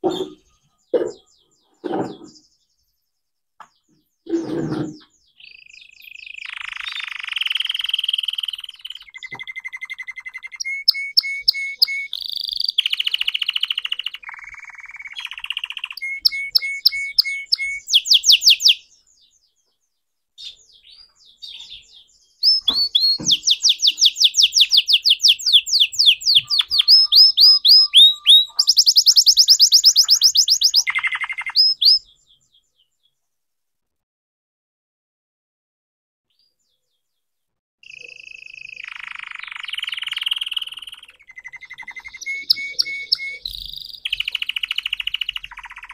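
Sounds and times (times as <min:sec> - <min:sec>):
canary singing trills: 0:00.0 - 0:03.0, 0:03.7 - 0:33.2, 0:37.8 - 0:45.9.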